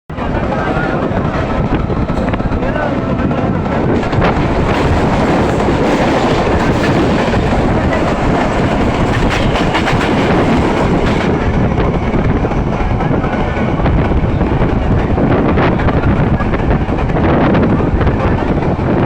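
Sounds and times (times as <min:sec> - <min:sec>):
train wheels rumbling on rails: 0:00.1 - 0:19.0
wheels clacking over rail joints: 0:00.2 - 0:18.7.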